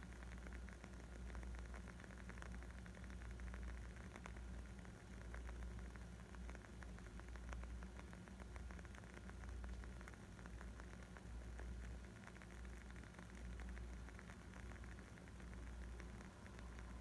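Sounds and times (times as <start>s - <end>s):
low steady rumble: 0.0s - 17.0s
wood fire crackling: 0.1s - 17.0s.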